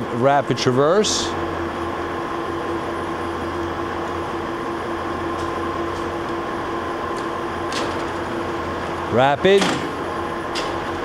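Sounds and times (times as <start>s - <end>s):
lathe electric hum and whine: 0.0s - 11.0s.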